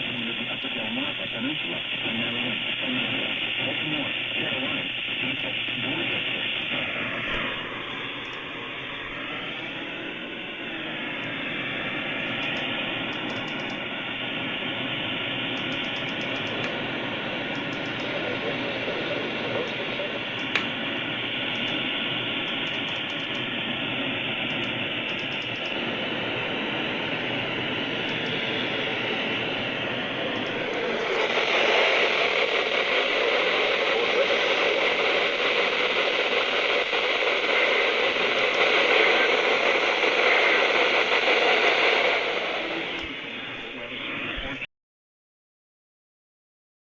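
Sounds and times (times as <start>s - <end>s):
radio static hiss: 0.0s - 44.7s.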